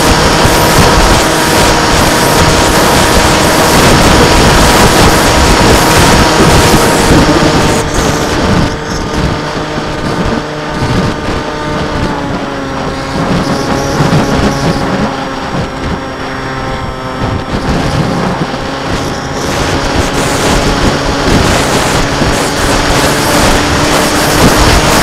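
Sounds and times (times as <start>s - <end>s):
model aircraft motor and propeller: 0.0s - 25.0s
wind buffeting microphone: 0.0s - 25.0s.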